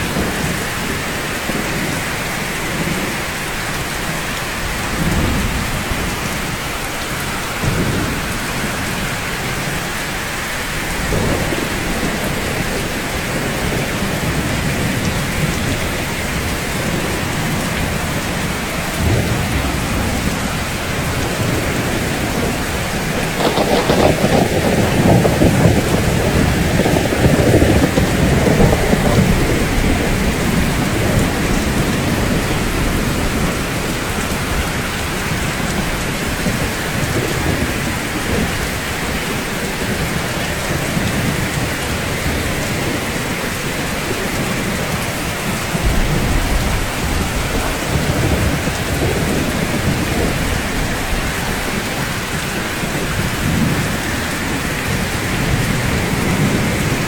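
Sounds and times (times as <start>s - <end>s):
rain falling on rooftops: 0.0s - 57.0s
thunder rumbling: 0.0s - 57.0s.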